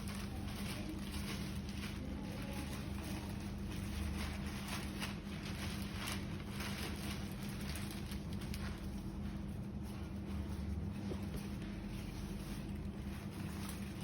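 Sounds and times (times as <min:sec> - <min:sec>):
rustling handling noises: 0:00.0 - 0:14.0.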